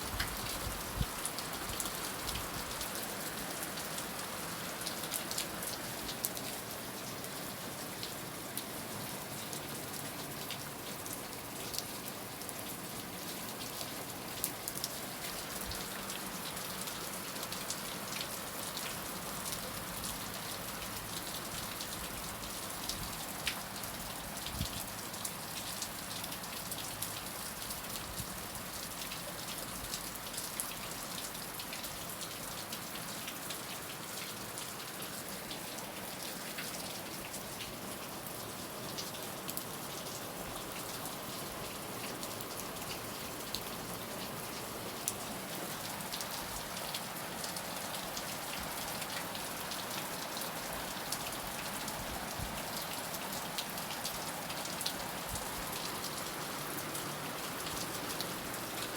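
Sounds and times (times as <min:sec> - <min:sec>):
raindrops pattering on a surface: 0:00.0 - 0:58.9.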